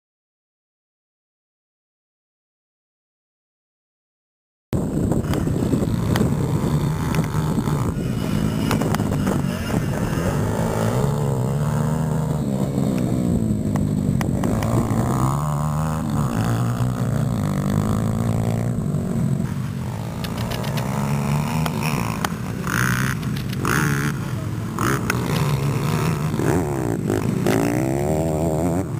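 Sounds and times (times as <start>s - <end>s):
dirt bike engine revving: 4.8s - 28.9s.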